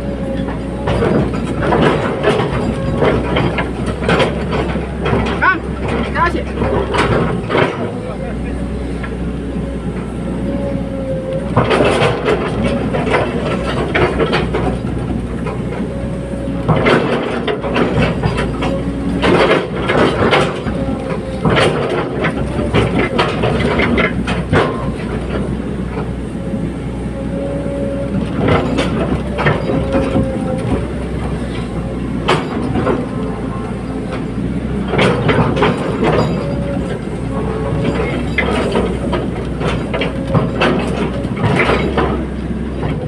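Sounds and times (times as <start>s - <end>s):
metal clanking and rattling: 0.0s - 9.2s, 9.9s - 43.0s
diesel engine running: 0.0s - 43.0s
hydraulic whine: 0.0s - 43.0s.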